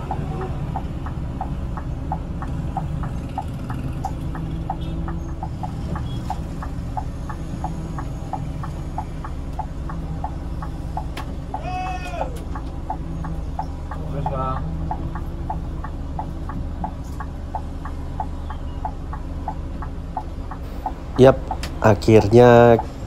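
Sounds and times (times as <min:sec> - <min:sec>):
diesel engine running at low revs: 0:00.0 - 0:23.0.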